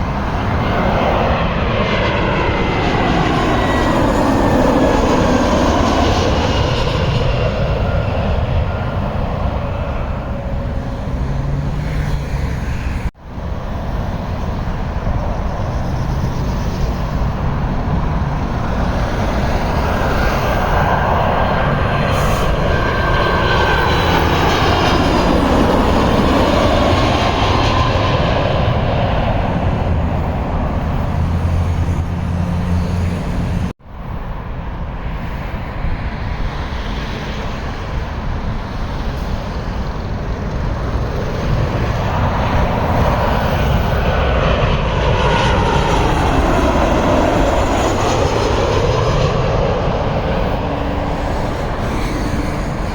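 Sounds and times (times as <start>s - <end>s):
jet airliners passing overhead: 0.0s - 52.9s.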